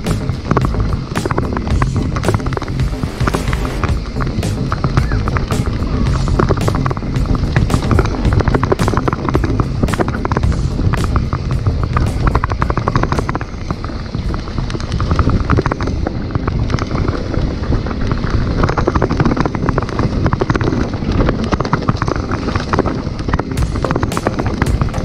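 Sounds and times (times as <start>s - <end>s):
bike rattling over bumps: 0.0s - 25.0s
bike tyres rumbling on dirt: 0.0s - 25.0s.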